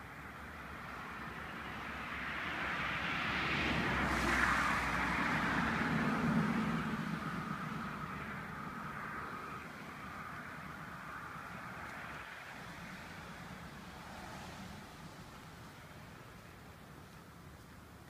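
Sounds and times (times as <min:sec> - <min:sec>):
vehicle passing by: 0:00.6 - 0:16.3.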